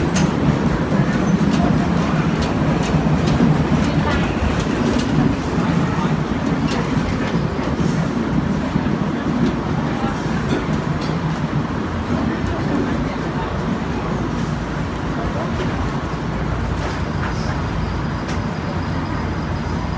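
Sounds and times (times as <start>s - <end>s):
trolley wheels rumbling: 0.0s - 19.9s.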